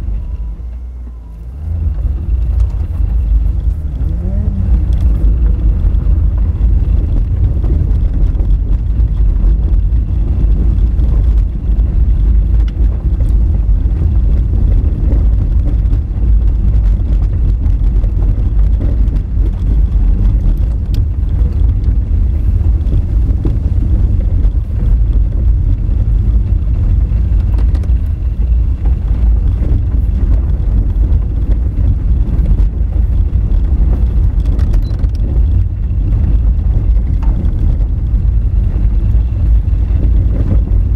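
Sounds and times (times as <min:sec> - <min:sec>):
tyres rumbling on gravel: 0:00.0 - 0:40.9.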